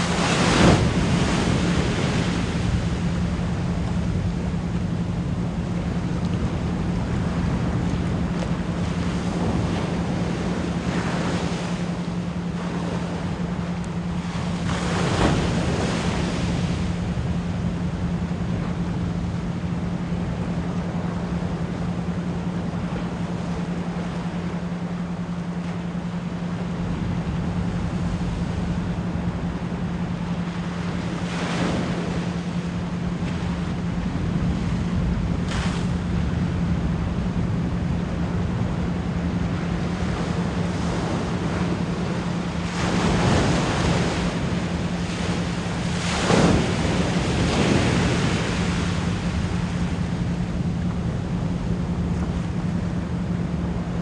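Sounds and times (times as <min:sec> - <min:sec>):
ocean surf: 0:00.0 - 0:54.0
steady low pure tone: 0:00.0 - 0:54.0
waves breaking: 0:00.0 - 0:54.0.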